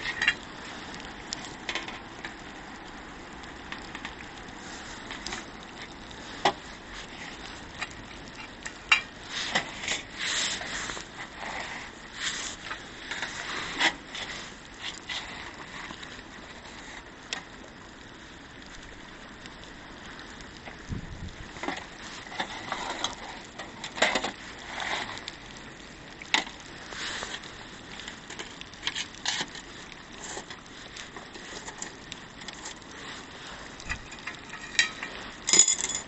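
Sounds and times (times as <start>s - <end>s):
campfire crackling and popping: 0.0s - 36.0s
rain hiss: 0.0s - 36.0s.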